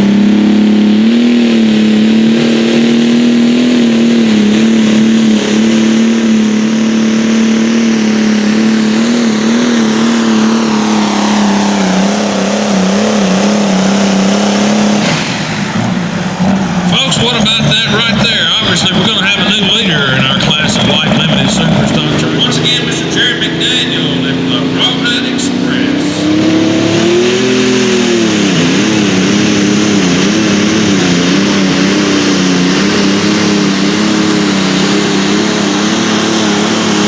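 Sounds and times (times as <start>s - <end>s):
pulling vehicle engine at full throttle: 0.0s - 37.0s.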